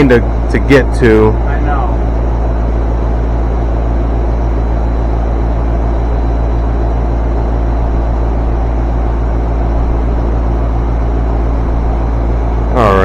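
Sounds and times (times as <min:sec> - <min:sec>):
low mechanical rumble with hum: 0:00.0 - 0:13.0.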